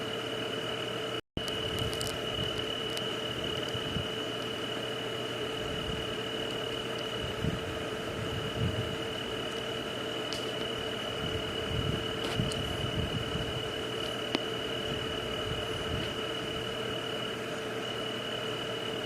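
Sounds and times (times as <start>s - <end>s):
insect chorus: 0.0s - 19.0s
low steady hum: 0.0s - 19.0s.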